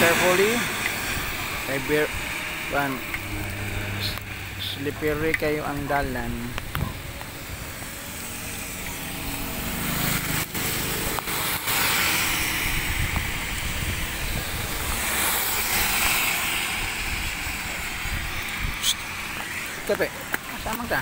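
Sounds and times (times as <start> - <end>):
heavy rain: 0.0 - 21.0
motorcycle on wet road: 0.0 - 21.0.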